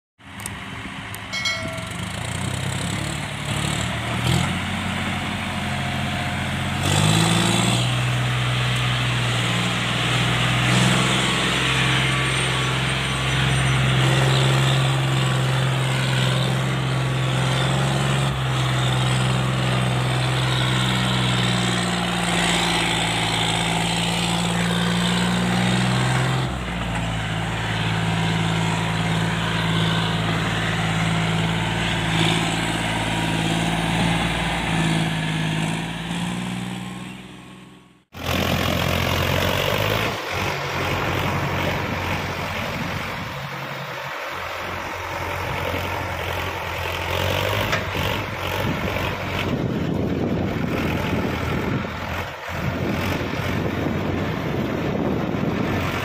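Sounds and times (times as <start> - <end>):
tractor diesel engine under load: 0.2 - 56.0.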